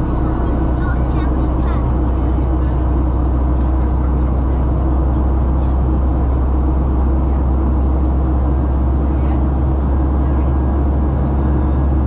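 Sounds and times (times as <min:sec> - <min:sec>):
constant hum: 0:00.0 - 0:12.0
jet cabin engine drone: 0:00.0 - 0:12.0.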